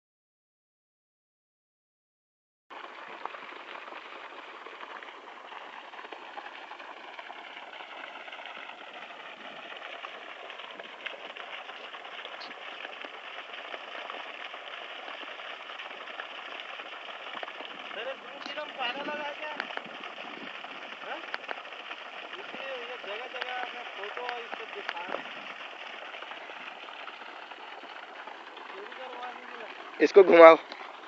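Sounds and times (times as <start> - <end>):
water pouring and splashing: 2.7 - 31.0.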